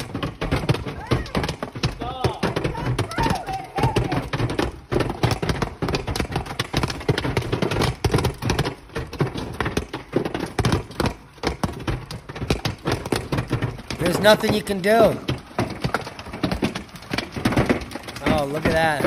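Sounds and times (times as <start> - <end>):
hailstones pelting a car: 0.0 - 19.0.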